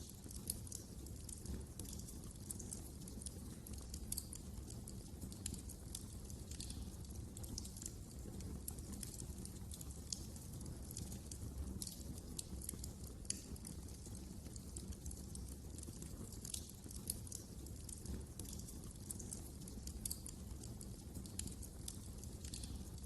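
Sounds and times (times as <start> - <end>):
low rumble of burning logs: 0.0 - 23.0
wood fire crackling: 0.0 - 23.0.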